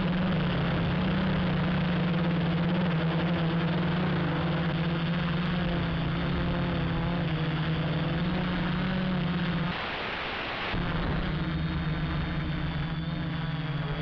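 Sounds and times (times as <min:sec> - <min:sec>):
drone propellers buzzing: 0:00.0 - 0:14.0
rushing noise: 0:00.0 - 0:14.0.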